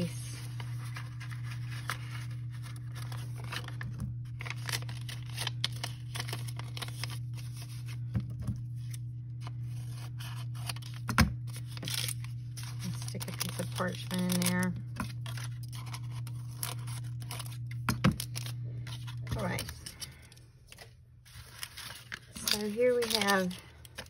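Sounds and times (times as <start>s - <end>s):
paper rustling: 0.0s - 24.0s
steady low hum: 0.0s - 24.0s.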